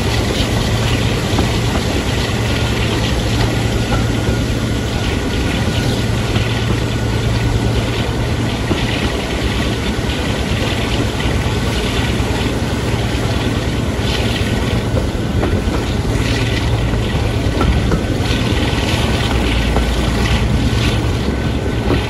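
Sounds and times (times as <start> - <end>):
diesel engine drone: 0.0 - 22.0
train wheels rumbling on rails: 0.0 - 22.0.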